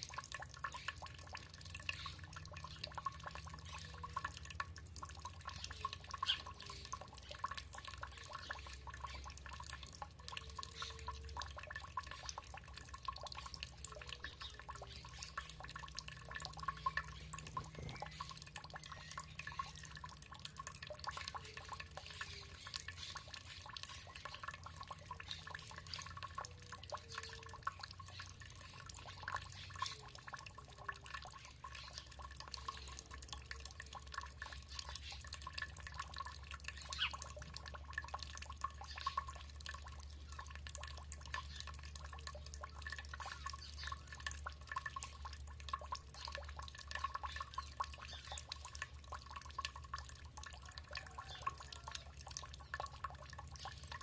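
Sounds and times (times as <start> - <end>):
water dripping and trickling: 0.0 - 54.0.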